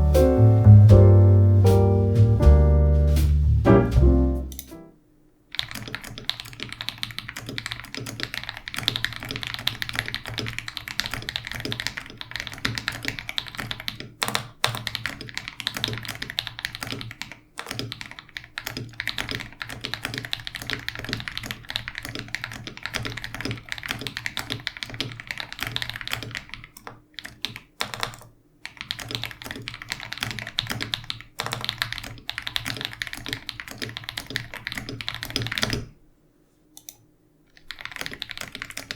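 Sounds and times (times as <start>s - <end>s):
mechanical keyboard typing: 5.5s - 35.9s, 36.8s - 38.9s.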